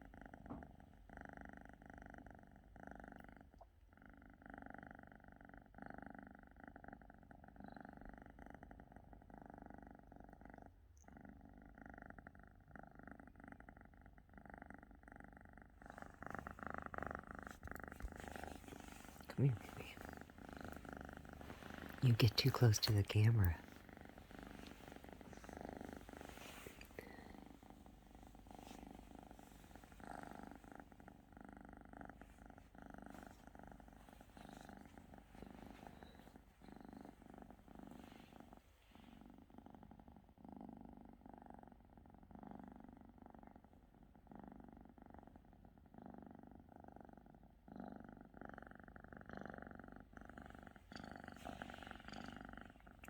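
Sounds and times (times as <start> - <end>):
cat purring: 0.0 - 53.0.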